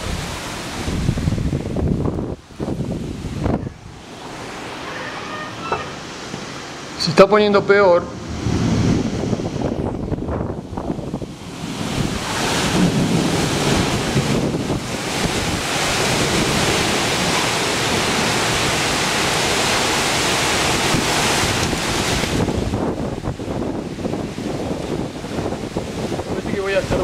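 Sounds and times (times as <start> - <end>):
wind buffeting microphone: 0.0 - 5.0, 7.8 - 27.0
strong wind blowing: 0.0 - 27.0.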